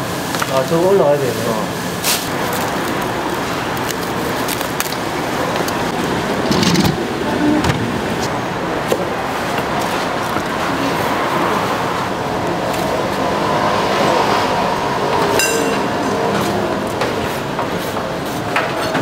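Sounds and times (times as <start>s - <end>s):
market background noise: 0.0s - 19.0s.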